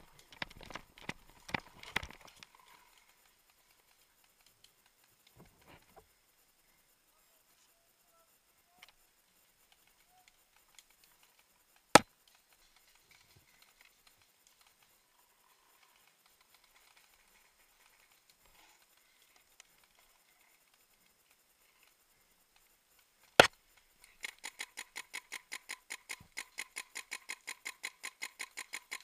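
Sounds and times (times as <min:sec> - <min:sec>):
faint rustling of undergrowth: 0:00.0 - 0:29.0.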